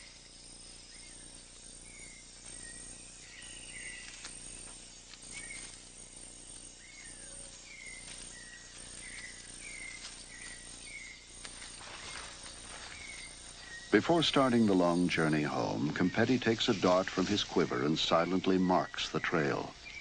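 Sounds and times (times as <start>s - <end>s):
bird chirping: 0.0s - 20.0s
high insect drone: 0.0s - 20.0s.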